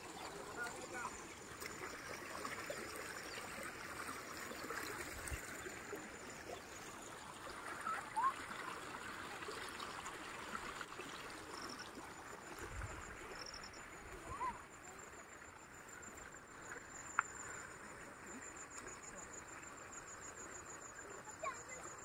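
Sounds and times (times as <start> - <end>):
water trickling over ground: 0.0 - 22.0.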